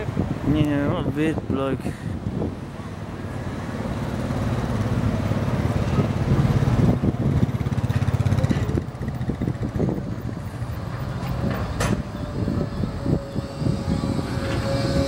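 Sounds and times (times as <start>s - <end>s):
tram electric hum: 2.1s - 15.0s.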